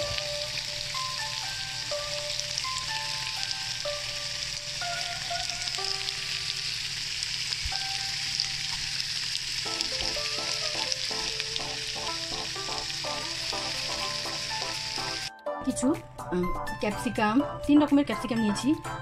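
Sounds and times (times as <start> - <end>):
meat sizzling in a frying pan: 0.0 - 15.3
soft background music: 0.0 - 19.0.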